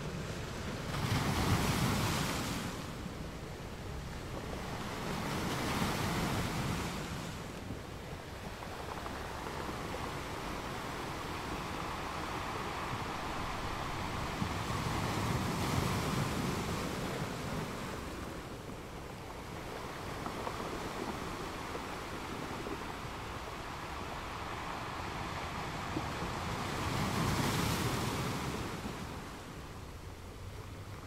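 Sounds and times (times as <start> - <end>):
gentle ocean waves washing in: 0.0 - 31.0.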